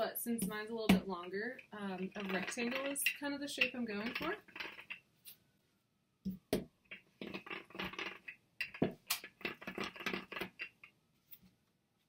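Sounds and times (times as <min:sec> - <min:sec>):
rolling pin rolling clay: 0:00.0 - 0:05.1, 0:06.3 - 0:11.5.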